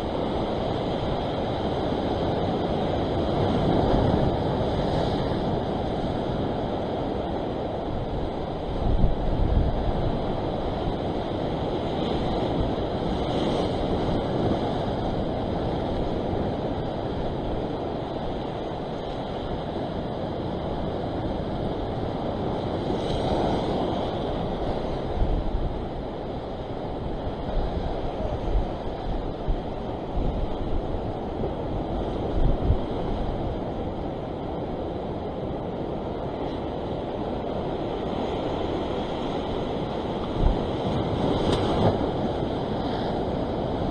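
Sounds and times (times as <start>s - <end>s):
surf washing against rock: 0.0s - 43.9s
wind buffeting microphone: 0.0s - 43.9s.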